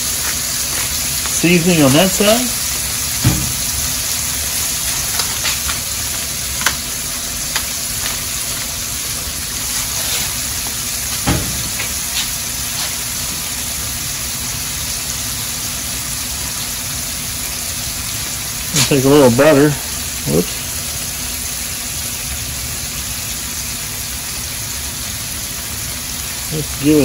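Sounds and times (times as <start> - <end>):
scallops sizzling in frying pan: 0.0 - 27.0.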